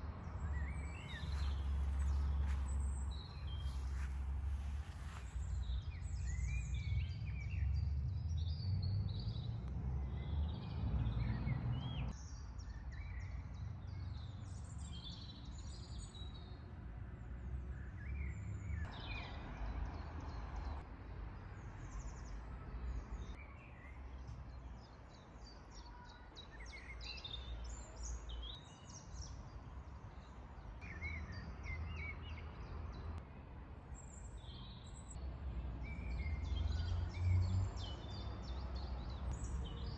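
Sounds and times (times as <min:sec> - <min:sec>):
songbirds singing and chirping: 0:00.0 - 0:16.8, 0:21.4 - 0:33.2, 0:34.0 - 0:39.9.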